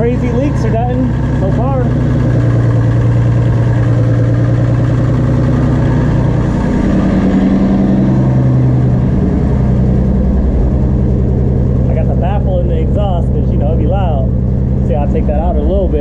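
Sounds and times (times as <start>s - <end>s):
car engine idling with misfire: 0.0s - 16.0s.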